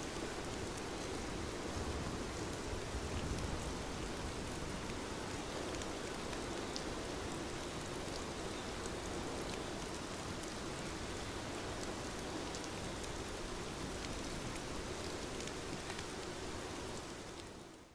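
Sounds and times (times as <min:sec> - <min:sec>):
steady rain: 0:00.0 - 0:17.9.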